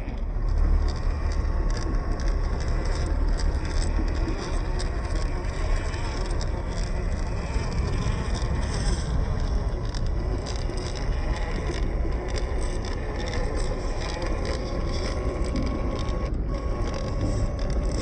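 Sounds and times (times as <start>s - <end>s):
electric motor and gearbox whine: 0.0s - 18.0s
low rumble: 0.0s - 18.0s
tyres scraping and clicking on rock: 0.0s - 18.0s.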